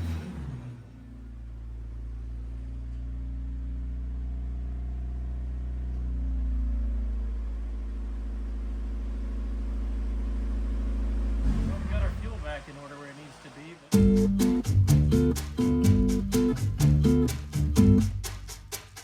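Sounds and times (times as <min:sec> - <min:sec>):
car engine low drone: 0:00.0 - 0:18.8.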